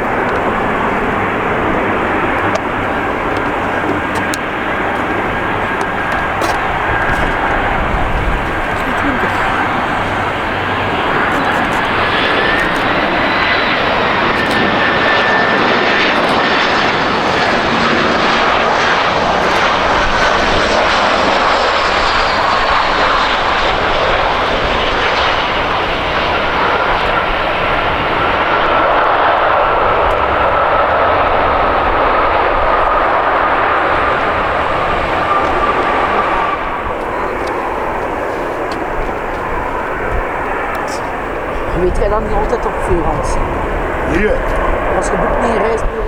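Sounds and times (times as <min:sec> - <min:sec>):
jet engine roar with whine: 0:00.0 - 0:46.0.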